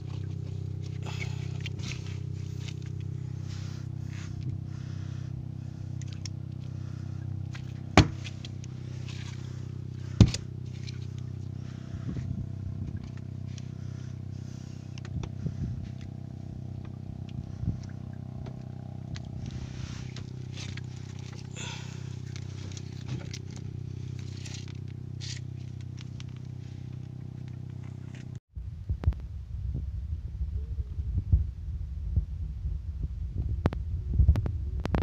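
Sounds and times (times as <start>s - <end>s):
boat engine humming: 0.0s - 28.4s.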